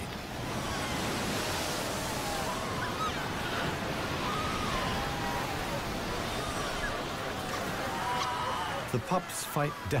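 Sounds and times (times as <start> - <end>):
surf churning seawater: 0.0 - 10.0.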